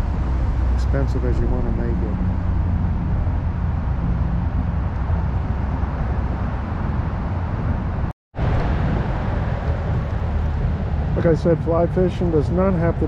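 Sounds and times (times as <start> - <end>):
road traffic rumble under a bridge: 0.0 - 13.0.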